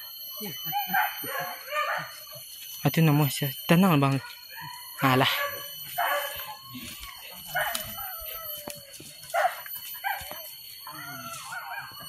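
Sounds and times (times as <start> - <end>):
dogs yelping and barking: 0.0 - 2.8, 4.1 - 12.0
high-pitched drone: 0.0 - 12.0.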